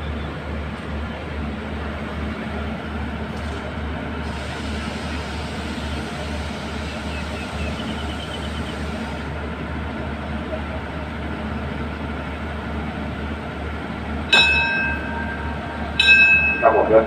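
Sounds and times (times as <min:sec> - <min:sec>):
diesel train low hum: 0:00.0 - 0:17.0.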